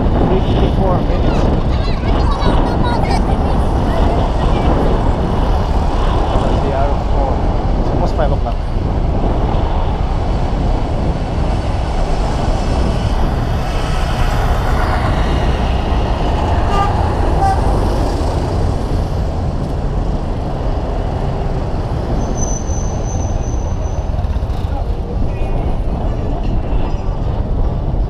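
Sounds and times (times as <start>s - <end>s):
road traffic noise: 0.0s - 28.0s
wind rumble on microphone: 0.0s - 28.0s.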